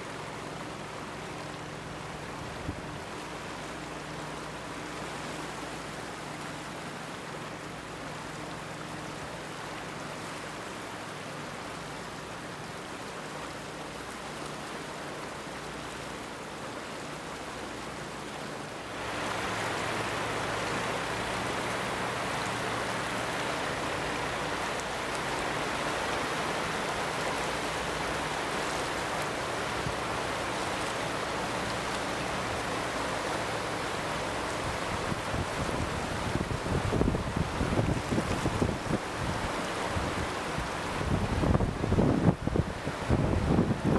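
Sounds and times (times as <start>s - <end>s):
rushing floodwater: 0.0s - 43.9s.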